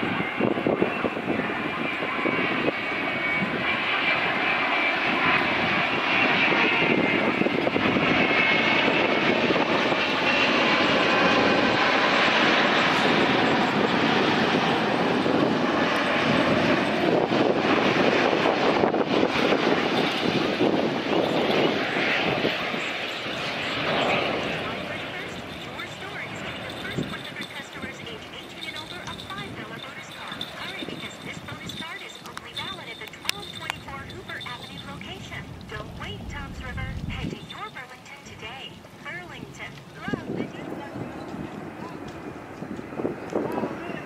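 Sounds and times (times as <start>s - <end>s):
jet engine roar: 0.0s - 44.0s.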